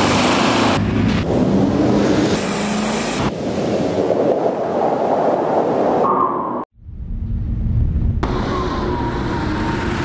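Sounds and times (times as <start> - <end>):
wind: 0.0 - 10.0.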